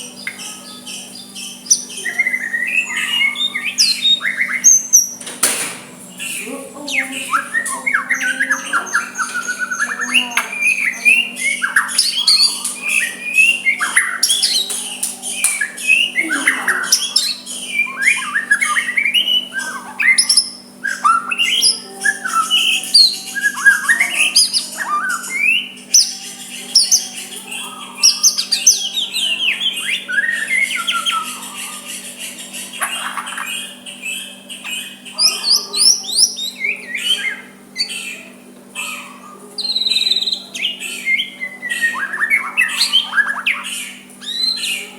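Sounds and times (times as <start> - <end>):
bird singing varied song: 0.0 - 44.9.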